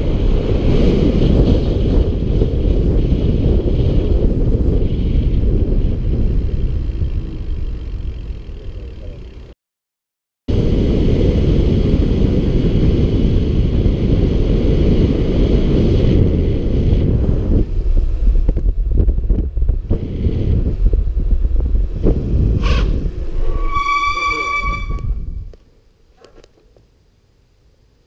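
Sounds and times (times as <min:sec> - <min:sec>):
wind buffeting microphone: 0:00.0 - 0:09.1, 0:10.5 - 0:25.6
road noise: 0:00.0 - 0:09.6, 0:10.5 - 0:27.2.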